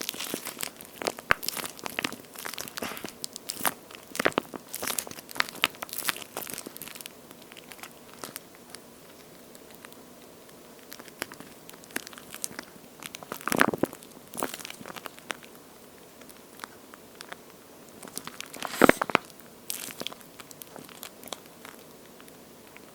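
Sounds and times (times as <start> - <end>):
squishy toy crackling and crinkling: 0.0 - 22.9.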